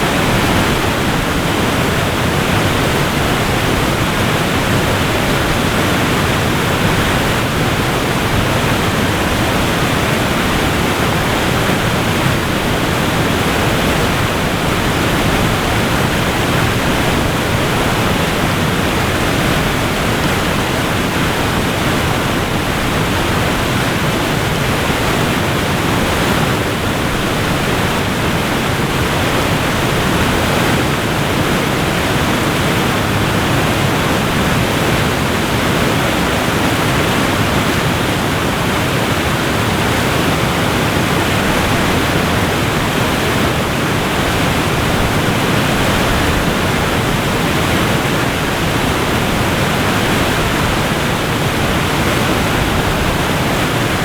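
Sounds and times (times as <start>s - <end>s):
waterfall pouring and crashing: 0.0s - 54.0s.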